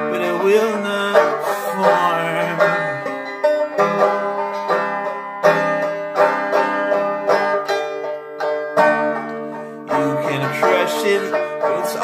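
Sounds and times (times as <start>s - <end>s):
banjo picking chords: 0.0s - 12.0s.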